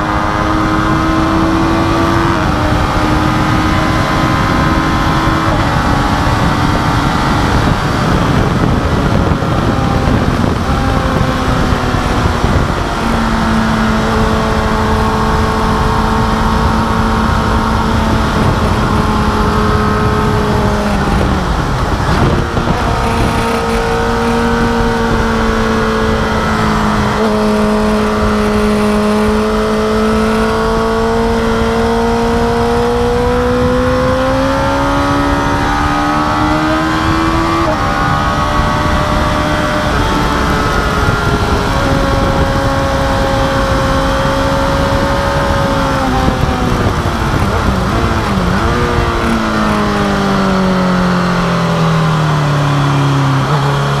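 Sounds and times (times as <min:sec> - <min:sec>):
heavy wind noise: 0:00.0 - 0:54.0
motorcycle engine at high revs: 0:00.0 - 0:54.0.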